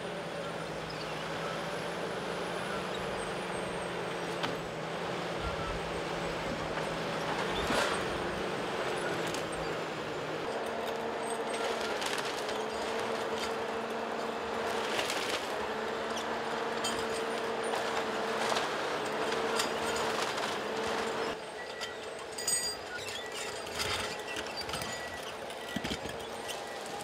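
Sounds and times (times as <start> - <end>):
forestry machine engine running: 0.0 - 27.0
hydraulic whine: 0.0 - 27.0.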